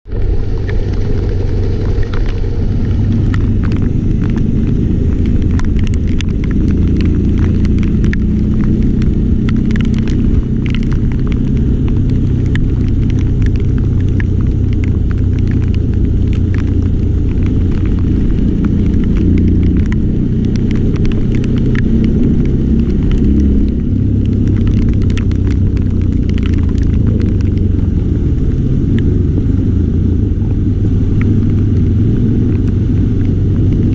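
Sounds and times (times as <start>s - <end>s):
road vehicle rumble: 0.0s - 33.9s.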